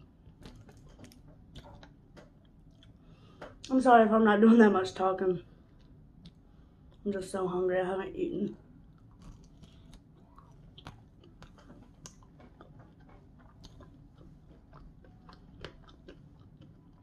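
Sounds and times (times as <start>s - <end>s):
person chewing crispy food: 0.0s - 3.7s, 5.4s - 7.1s, 8.6s - 17.0s.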